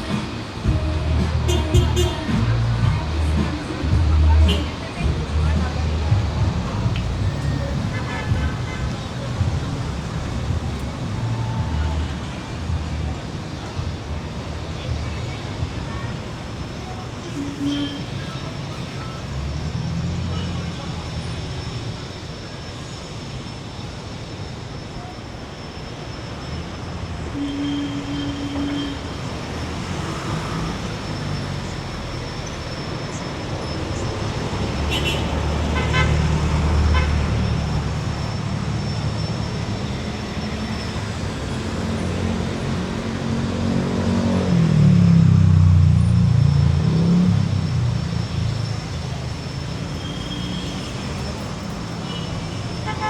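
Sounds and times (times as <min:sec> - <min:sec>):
car engines passing: 0:00.0 - 0:22.1, 0:26.2 - 0:53.0
street traffic: 0:00.0 - 0:53.0.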